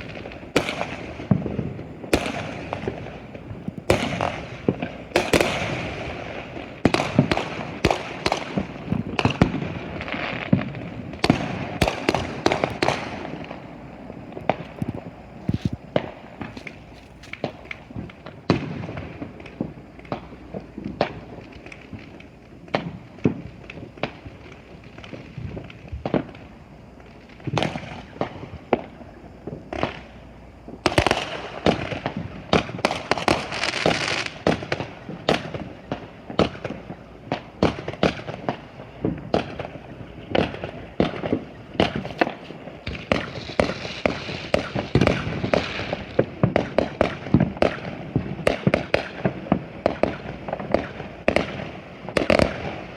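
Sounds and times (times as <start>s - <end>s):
fireworks bangs and pops: 0.0s - 52.9s
fireworks crackling: 0.0s - 52.9s.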